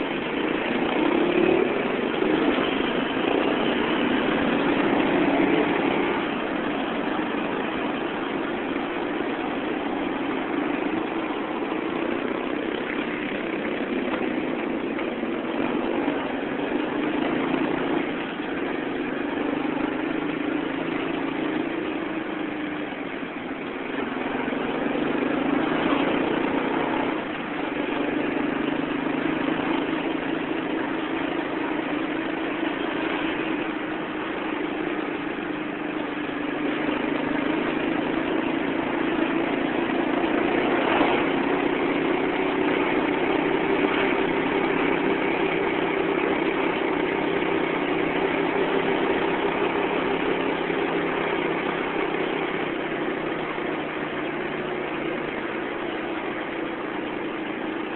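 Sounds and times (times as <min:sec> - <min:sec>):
motorcycle engine revving: 0:00.0 - 0:57.9
traffic noise: 0:00.0 - 0:57.9.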